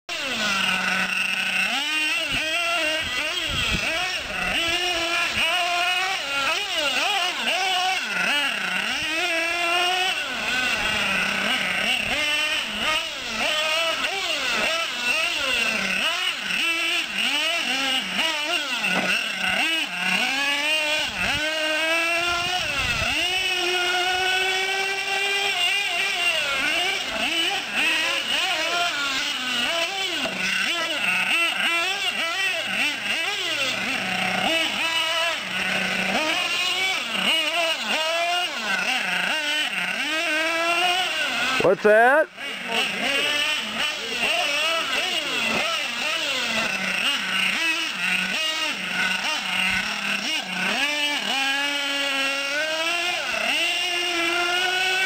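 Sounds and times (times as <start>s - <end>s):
model car engine revving: 0.1s - 55.0s.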